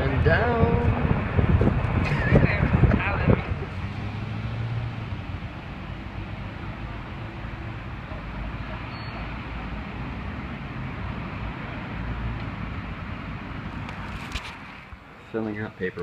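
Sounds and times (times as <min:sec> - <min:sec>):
low engine hum: 0:00.0 - 0:16.0
outdoor traffic noise: 0:00.0 - 0:16.0.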